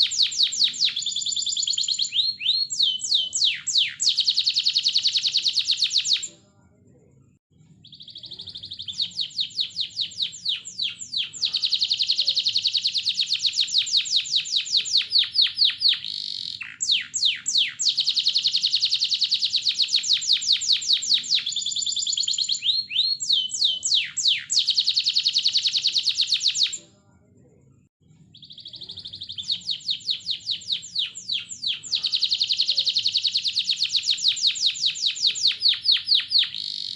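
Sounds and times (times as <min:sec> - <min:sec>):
canary singing trills: 0:00.0 - 0:06.4, 0:07.6 - 0:26.9, 0:28.1 - 0:36.9.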